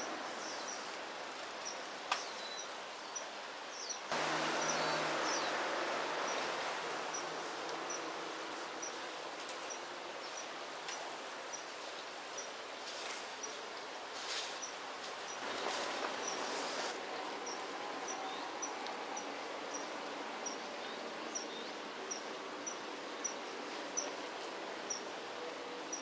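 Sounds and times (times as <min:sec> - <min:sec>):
steady rushing river noise: 0:00.0 - 0:26.0.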